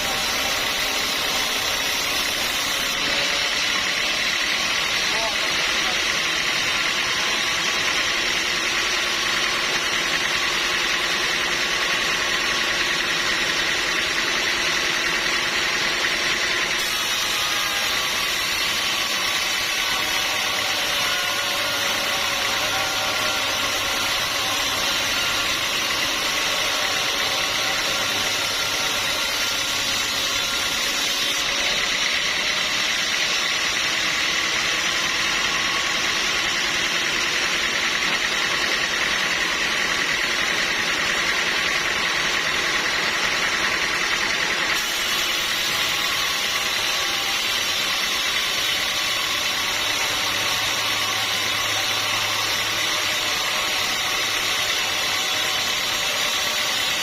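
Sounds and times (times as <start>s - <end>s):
sawmill motor and saw noise: 0.0s - 57.0s.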